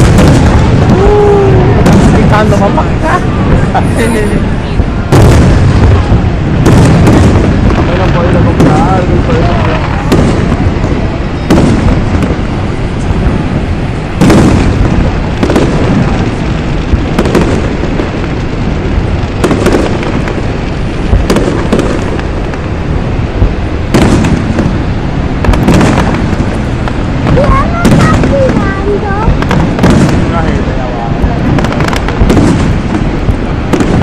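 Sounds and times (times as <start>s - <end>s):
firework shells bursting with booms: 0.0s - 34.0s
low steady rumble: 0.0s - 34.0s.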